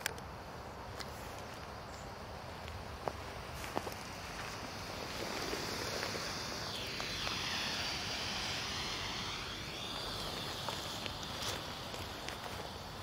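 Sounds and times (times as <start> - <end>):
smoke flare hissing: 1.1 - 13.0.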